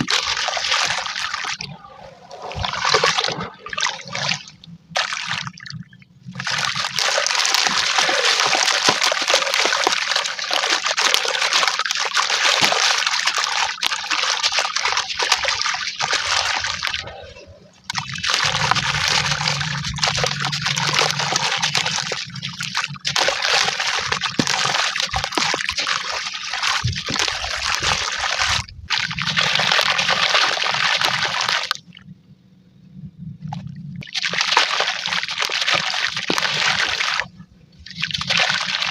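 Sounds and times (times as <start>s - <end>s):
grit splashing into water: 0.0s - 31.9s, 33.5s - 38.9s.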